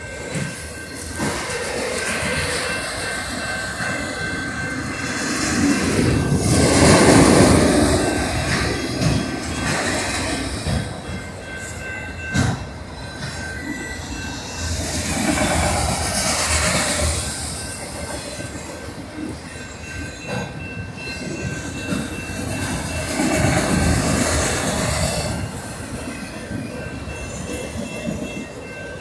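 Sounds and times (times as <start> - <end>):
train wheels rumbling and clacking: 0.0 - 29.0.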